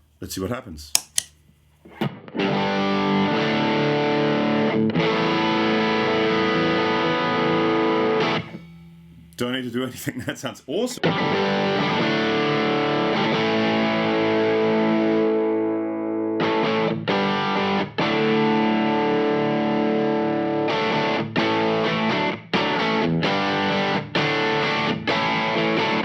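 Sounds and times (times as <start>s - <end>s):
overdriven electric guitar chords: 2.0s - 9.4s, 11.0s - 26.0s.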